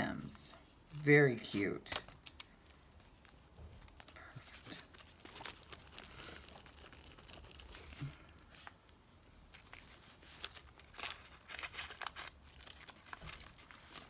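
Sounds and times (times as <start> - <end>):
paper rustling and crinkling: 0.8 - 14.0
sharp crinkles and clicks: 1.4 - 8.9, 9.5 - 14.0.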